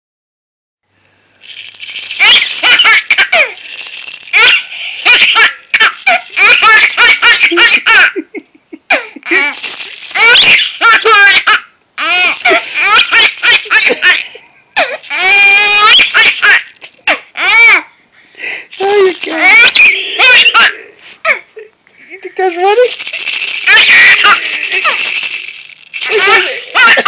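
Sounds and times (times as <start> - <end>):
baby laughing hysterically: 2.0 - 17.9, 18.8 - 21.5, 22.9 - 27.0.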